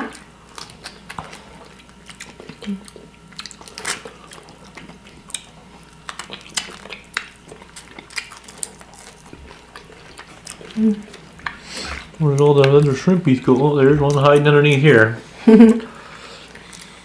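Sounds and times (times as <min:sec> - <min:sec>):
chewing: 0:00.0 - 0:15.0, 0:16.2 - 0:17.0.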